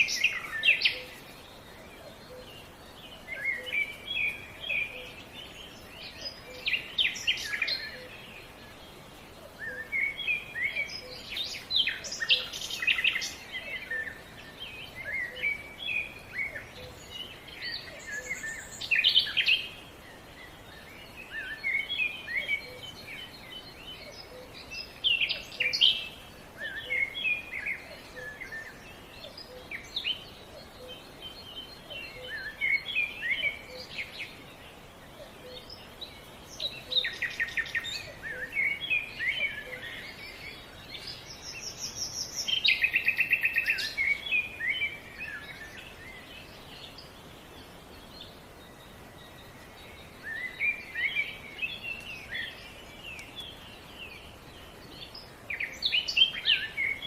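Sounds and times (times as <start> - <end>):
songbirds chirping and warbling: 0.0 - 57.0
steady background hiss: 0.0 - 57.0.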